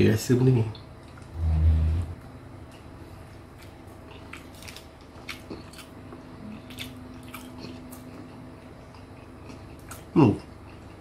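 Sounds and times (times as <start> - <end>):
person chewing food: 0.7 - 11.0.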